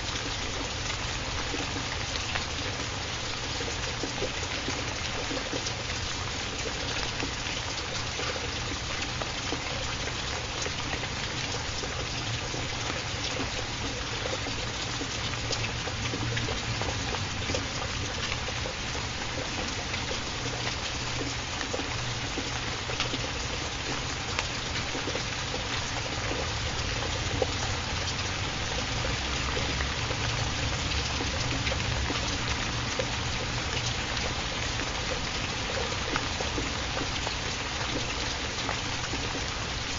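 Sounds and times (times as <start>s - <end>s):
steady rain: 0.0s - 39.9s
water trickling: 0.0s - 39.9s.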